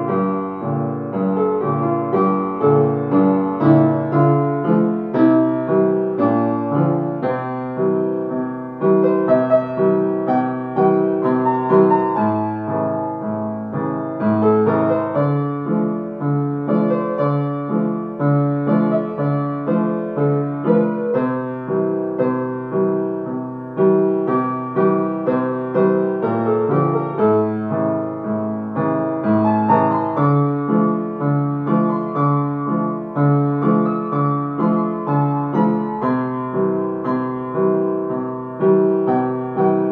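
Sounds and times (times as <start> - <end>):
slow piano melody: 0.0 - 39.9.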